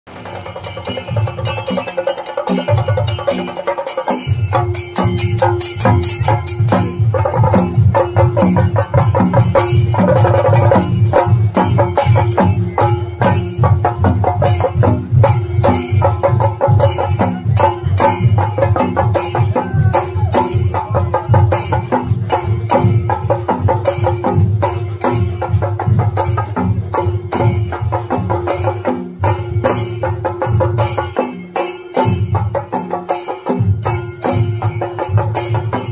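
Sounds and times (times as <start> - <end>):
drums beaten with sticks: 0.1 - 35.9.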